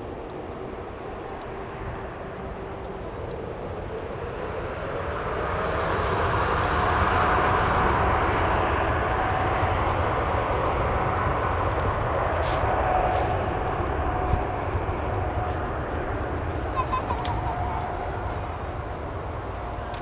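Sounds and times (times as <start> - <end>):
jet engine whine: 0.0 - 20.0
jet engines roaring: 0.0 - 20.0.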